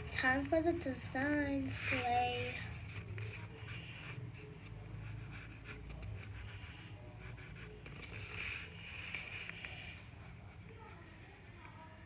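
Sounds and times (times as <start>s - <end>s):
pencil scratching on paper: 0.8s - 12.0s.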